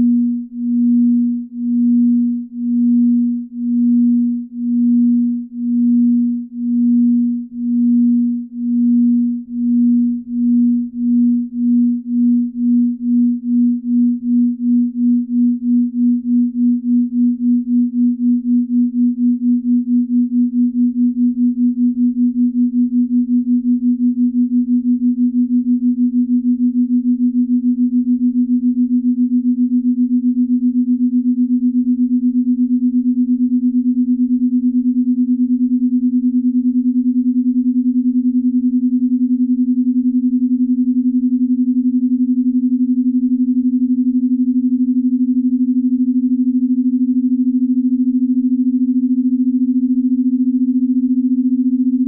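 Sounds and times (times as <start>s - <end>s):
pulsing low sine hum: 0.0s - 52.0s.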